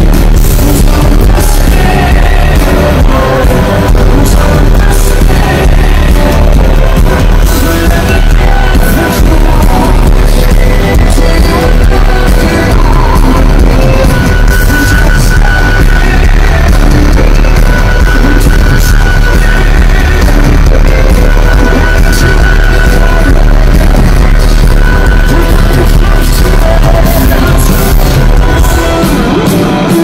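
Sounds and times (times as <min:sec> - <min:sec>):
rock band playing live: 0:00.0 - 0:30.0.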